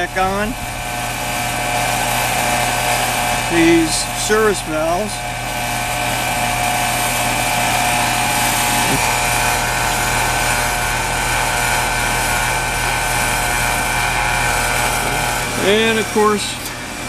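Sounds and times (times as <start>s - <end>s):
heat pump unit humming: 0.0s - 17.0s.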